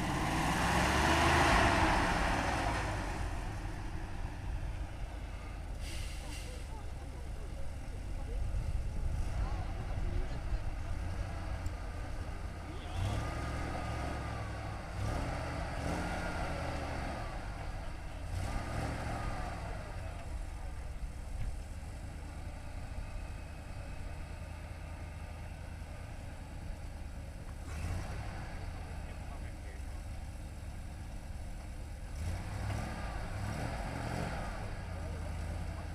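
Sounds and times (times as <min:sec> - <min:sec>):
truck engine revving under load: 0:00.0 - 0:35.9.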